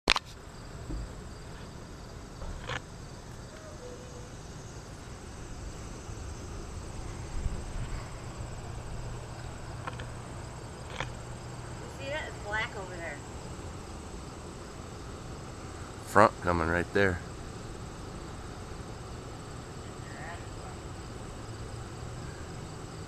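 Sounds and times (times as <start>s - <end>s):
insects trilling: 0.1s - 23.0s
low steady rumble: 0.4s - 23.0s.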